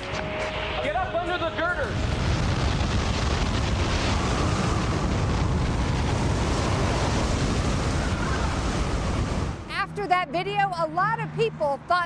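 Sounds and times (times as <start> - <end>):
wind buffeting microphone: 1.5 - 11.9.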